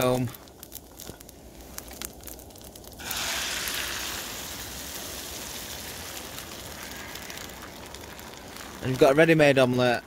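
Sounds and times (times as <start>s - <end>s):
eggs sizzling in a frying pan: 0.0s - 10.0s.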